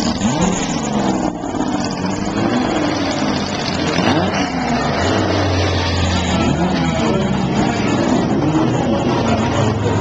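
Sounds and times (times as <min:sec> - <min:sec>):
racing car engine accelerating: 0:00.0 - 0:10.0.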